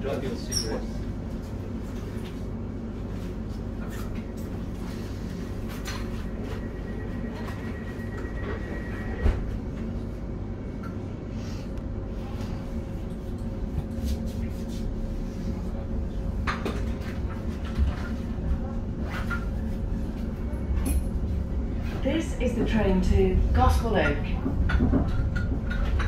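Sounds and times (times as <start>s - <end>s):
electric train carriage hum: 0.0s - 26.0s.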